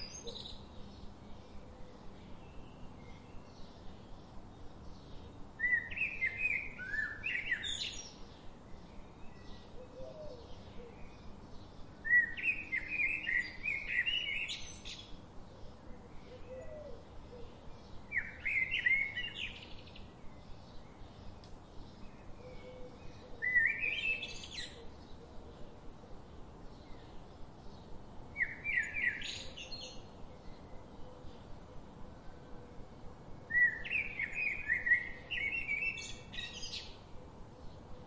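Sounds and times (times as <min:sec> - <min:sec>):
songbird singing: 0:00.0 - 0:38.0.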